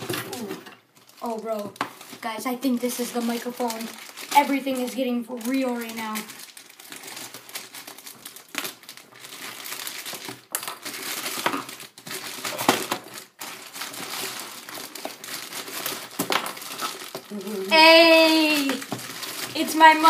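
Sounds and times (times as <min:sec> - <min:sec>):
wrapping paper tearing and crinkling: 0:00.0 - 0:20.0.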